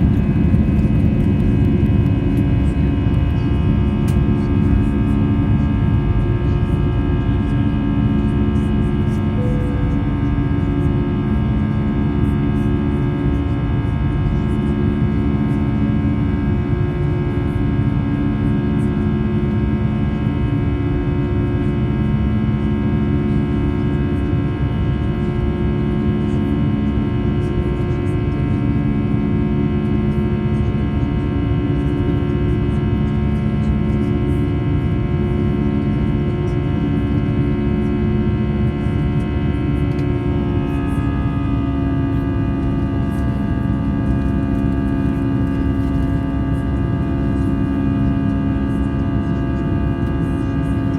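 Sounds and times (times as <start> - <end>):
jet engine cabin drone: 0.0 - 50.9.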